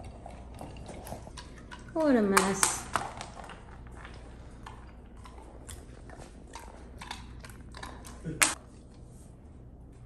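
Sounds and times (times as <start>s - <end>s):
puppy lapping water: 0.0s - 8.6s.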